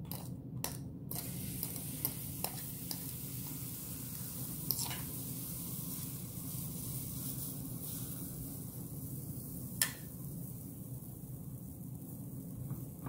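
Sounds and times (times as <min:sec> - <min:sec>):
batter sizzling on a griddle: 0:01.1 - 0:13.0.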